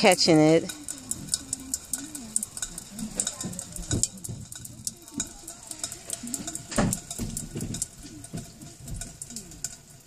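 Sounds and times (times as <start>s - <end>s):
water dripping into metal pot: 0.0s - 10.0s.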